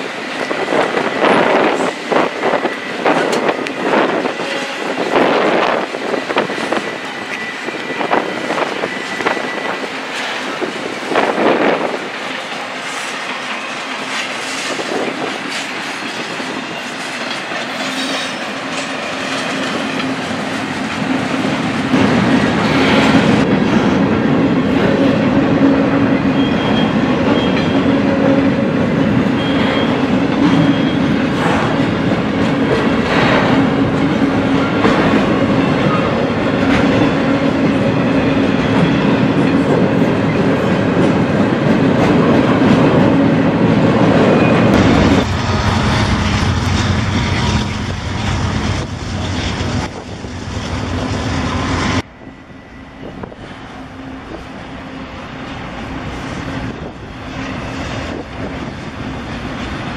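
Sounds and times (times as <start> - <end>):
train wheels clacking on rails: 0.0 - 52.1.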